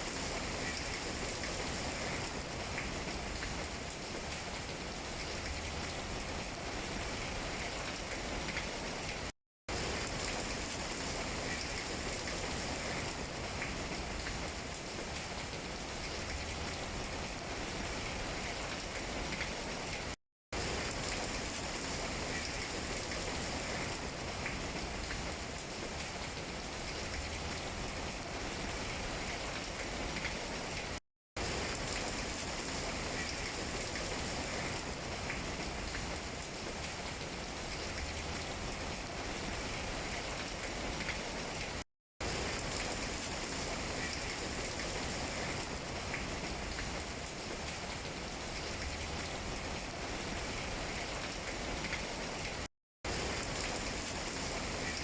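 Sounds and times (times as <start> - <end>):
rain pattering on leaves: 0.0 - 55.0.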